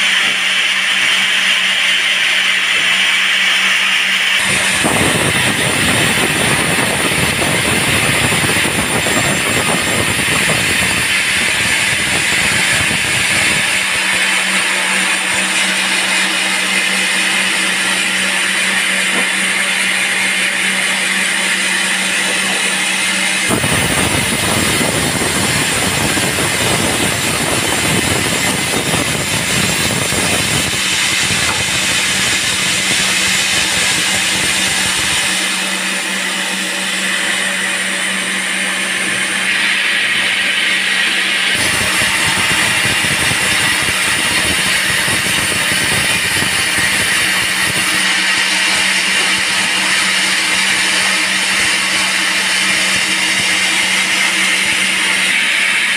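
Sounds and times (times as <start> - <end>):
band saw humming: 0.0 - 55.9
rough deep sawing noise: 0.0 - 55.9.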